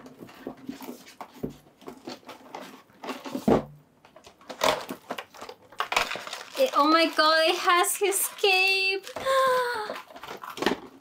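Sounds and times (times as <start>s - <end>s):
packaging clicks and rustles: 0.0s - 11.0s.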